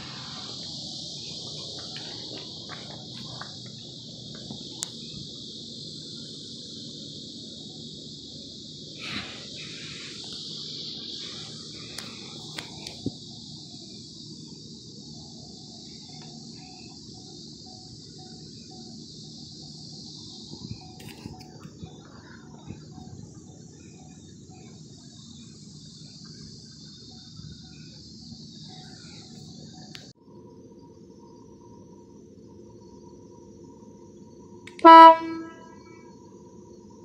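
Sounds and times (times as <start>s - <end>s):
steady high hiss: 0.0s - 37.0s.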